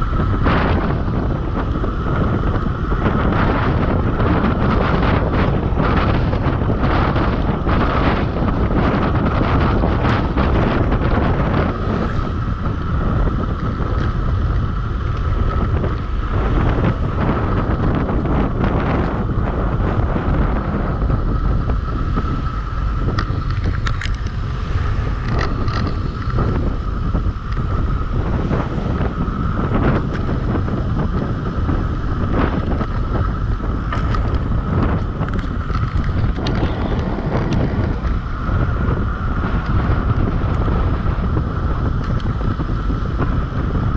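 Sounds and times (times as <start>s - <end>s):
steady high whine: 0.0s - 43.9s
wind buffeting microphone: 0.0s - 43.9s.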